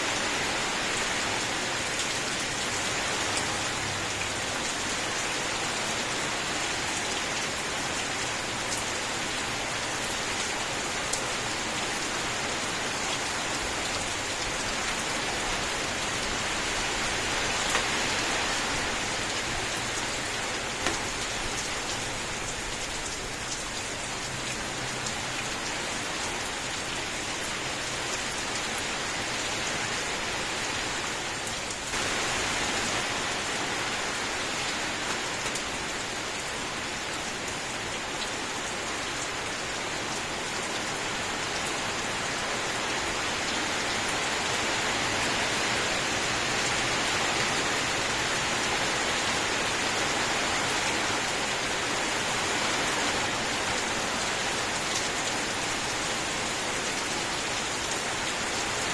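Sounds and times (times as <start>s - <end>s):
steady rain hissing: 0.0s - 58.9s.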